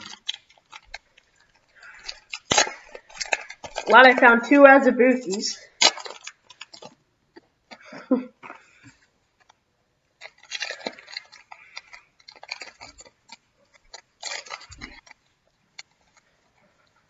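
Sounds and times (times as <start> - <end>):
foil wrapper crinkling and tearing: 0.0 - 7.9, 10.2 - 16.6.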